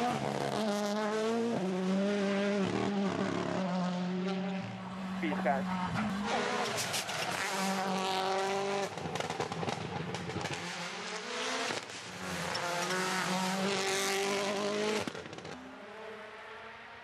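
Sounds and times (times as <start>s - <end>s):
distant car engine: 0.0s - 17.0s
rally car engines at full throttle: 0.0s - 17.0s.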